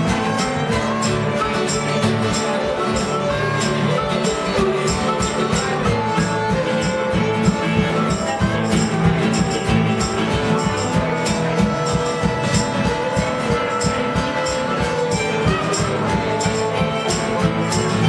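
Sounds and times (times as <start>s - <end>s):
acoustic guitars strumming: 0.0s - 18.0s
fiddle playing: 0.0s - 18.0s.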